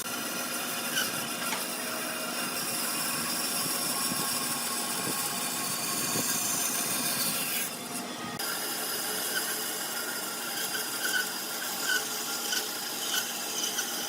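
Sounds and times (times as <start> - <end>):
power tool working wood: 0.0 - 14.0.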